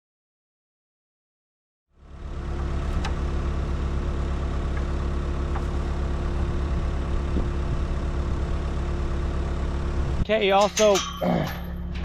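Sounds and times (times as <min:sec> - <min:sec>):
diesel engine running: 0:01.9 - 0:12.0.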